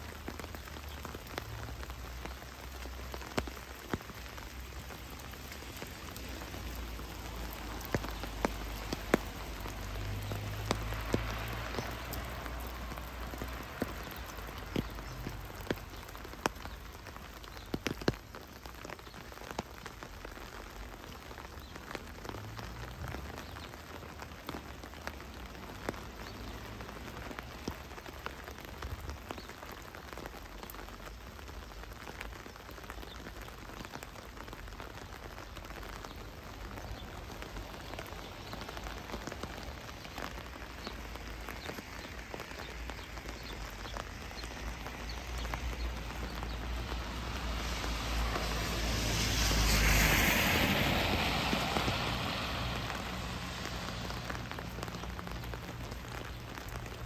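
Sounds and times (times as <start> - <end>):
heavy rain falling: 0.0 - 57.0
raindrops ticking close by: 0.0 - 57.0.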